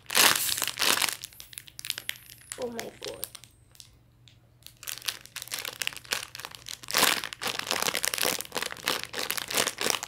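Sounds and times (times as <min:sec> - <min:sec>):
plastic packaging crinkling: 0:00.0 - 0:04.0, 0:04.6 - 0:10.0.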